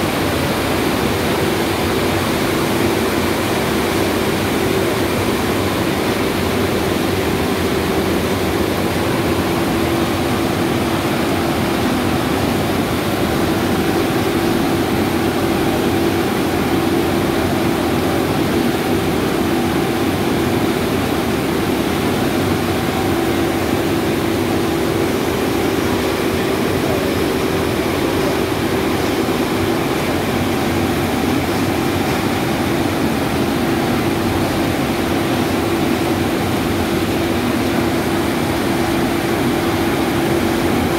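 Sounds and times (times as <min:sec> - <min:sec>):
boiler machine roar: 0:00.0 - 0:40.9.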